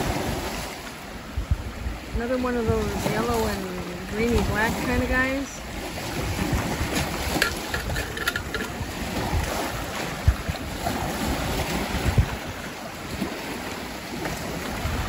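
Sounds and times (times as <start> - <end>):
waves lapping on stony shore: 0.0 - 15.0
wind rumbling on microphone: 0.0 - 15.0.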